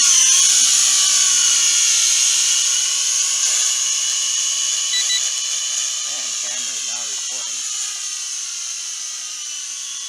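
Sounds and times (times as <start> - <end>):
toy drone propeller whine: 0.0 - 10.0.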